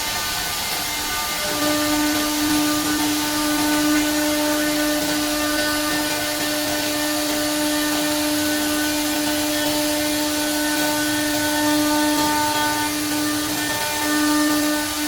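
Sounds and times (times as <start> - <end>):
router spindle high whine: 0.0 - 15.0.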